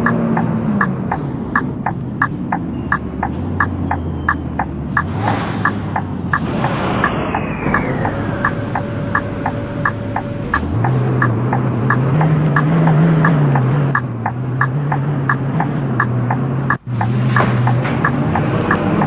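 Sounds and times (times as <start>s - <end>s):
bus engine pulling away: 0.0s - 19.0s
rhythmic clicking: 0.0s - 19.0s.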